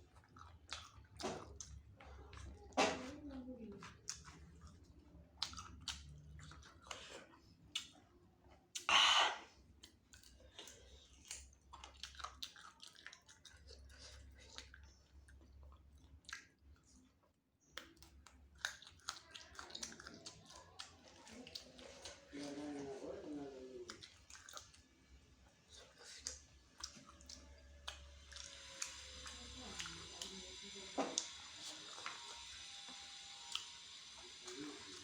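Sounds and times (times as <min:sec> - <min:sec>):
chewing and wet mouth clicks: 0:00.0 - 0:02.8, 0:03.6 - 0:22.8, 0:23.8 - 0:35.0.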